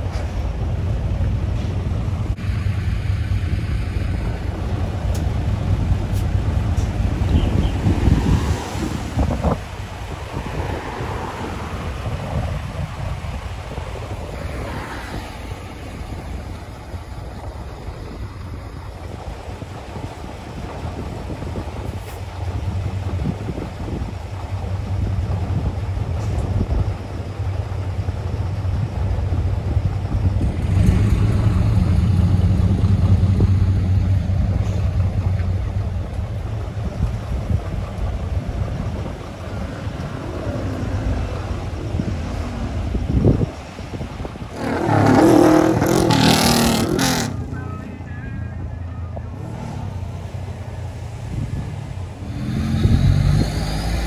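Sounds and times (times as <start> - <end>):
diesel trucks driving past: 0.0 - 54.0.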